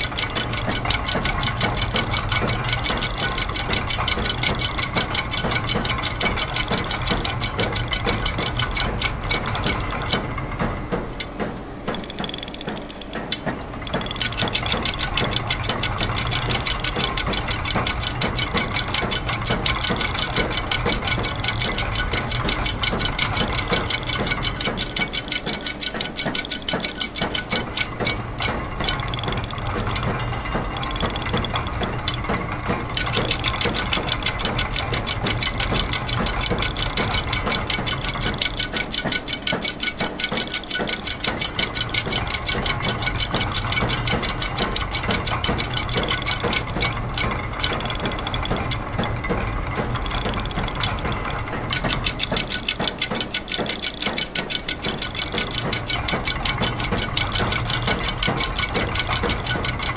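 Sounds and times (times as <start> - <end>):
ratchet and gear clicking: 0.0 - 10.4, 11.2 - 59.9
low mechanical hum: 0.0 - 59.9.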